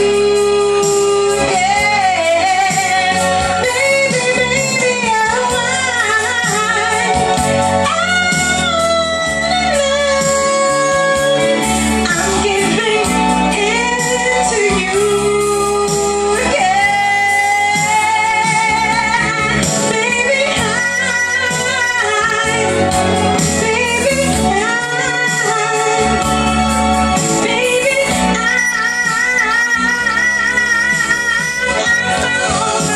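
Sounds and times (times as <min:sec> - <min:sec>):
backing track with bass: 0:00.0 - 0:32.9
woman singing with vibrato: 0:00.0 - 0:32.9.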